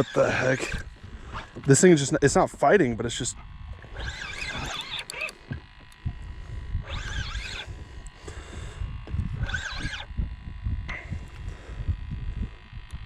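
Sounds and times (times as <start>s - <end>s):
fishing reel whirring: 0.0s - 11.7s
wind rumble on microphone: 0.0s - 13.0s.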